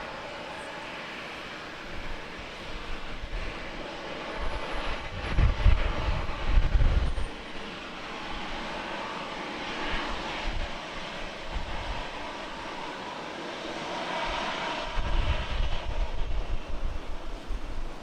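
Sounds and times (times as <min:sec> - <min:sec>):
jet airliner engines running: 0:00.0 - 0:18.0.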